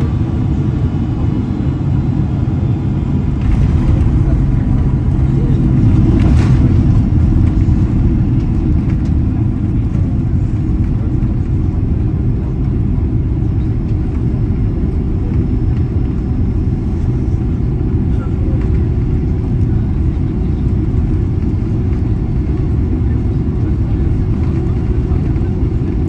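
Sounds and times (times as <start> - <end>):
jet rolling on runway rumble: 0.0 - 26.0.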